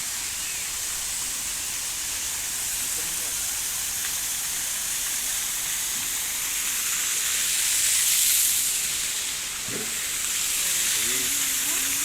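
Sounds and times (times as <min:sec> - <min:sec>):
water splashing down waterfall: 0:00.0 - 0:12.0.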